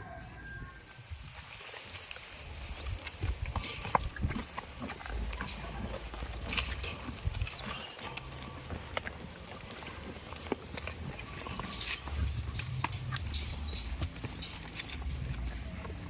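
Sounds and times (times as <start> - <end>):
goat hooves clattering: 1.1 - 16.0.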